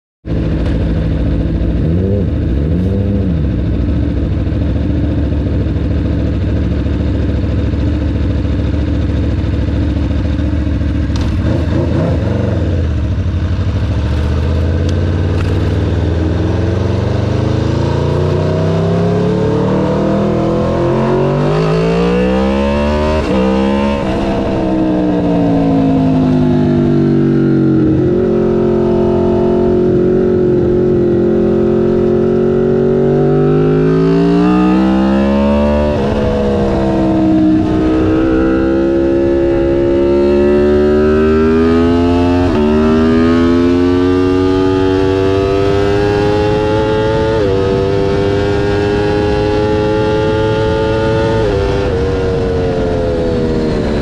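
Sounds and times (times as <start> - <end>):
motorcycle engine revving: 0.2 - 54.0.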